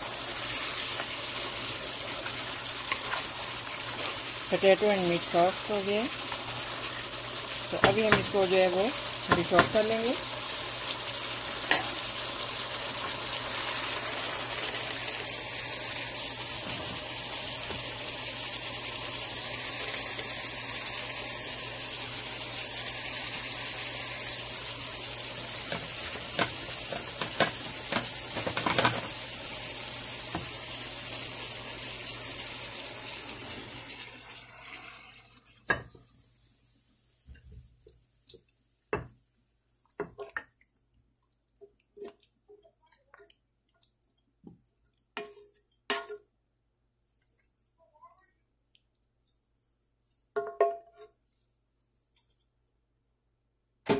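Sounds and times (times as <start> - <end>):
curry sizzling in a pot: 0.0 - 46.4.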